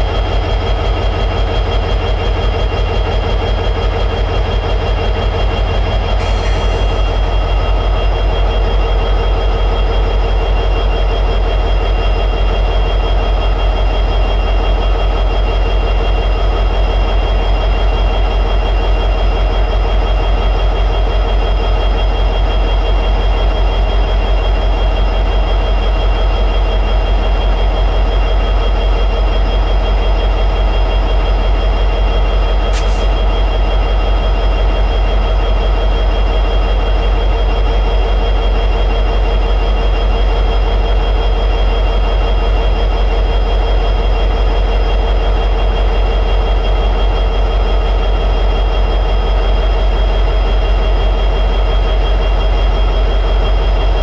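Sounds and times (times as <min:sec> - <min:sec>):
diesel locomotive engine idling: 0:00.0 - 0:54.0.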